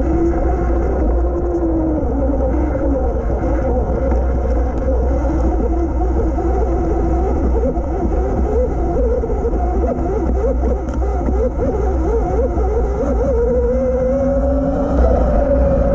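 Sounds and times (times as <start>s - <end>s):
electric motor whining: 0.0s - 15.9s
wind rumble on microphone: 0.0s - 15.9s.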